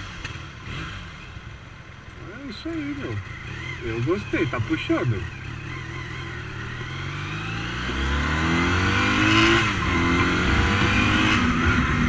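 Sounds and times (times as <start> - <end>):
motorcycle engine accelerating: 0.0 - 1.6, 2.2 - 12.0.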